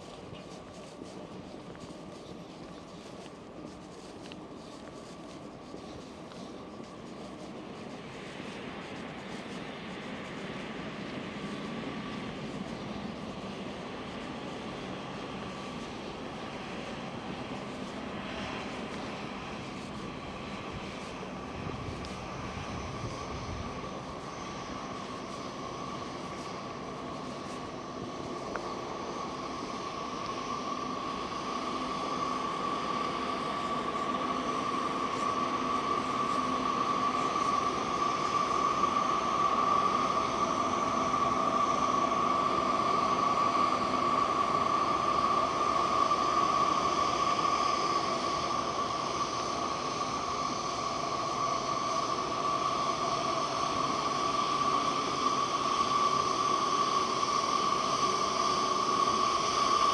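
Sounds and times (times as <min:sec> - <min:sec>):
mechanical rushing noise with whine: 0:00.0 - 0:59.9.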